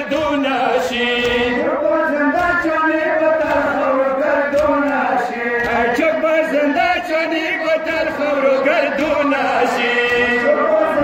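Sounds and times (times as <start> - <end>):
male voices chanting a lament: 0.0 - 11.0.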